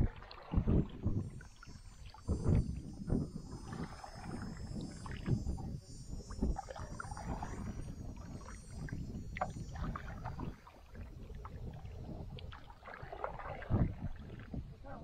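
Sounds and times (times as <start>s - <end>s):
paddle strokes through water: 0.0s - 15.0s
water lapping on canoe hull: 0.0s - 15.0s.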